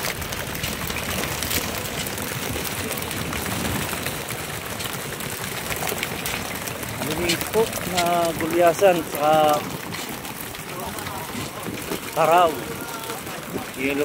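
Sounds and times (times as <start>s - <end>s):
fish flapping on plastic tarp: 0.0s - 14.0s
steady rushing noise: 0.0s - 14.0s.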